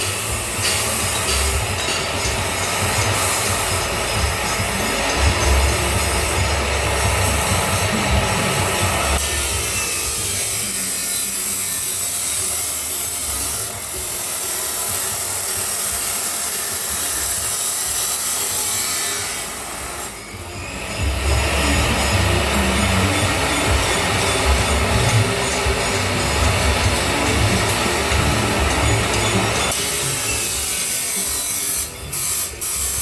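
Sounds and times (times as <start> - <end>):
grinder cutting steel pipe: 0.0 - 33.0.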